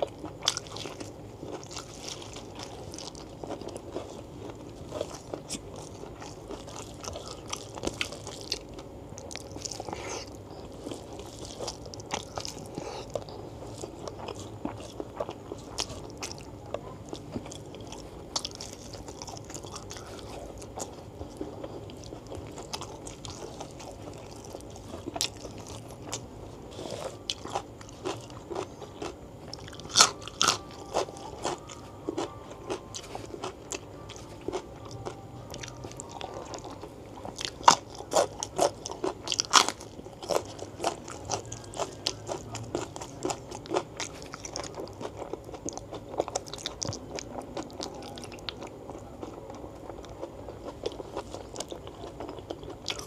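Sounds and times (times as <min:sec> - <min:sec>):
wet chewing with crunchy bites: 0:00.0 - 0:53.0.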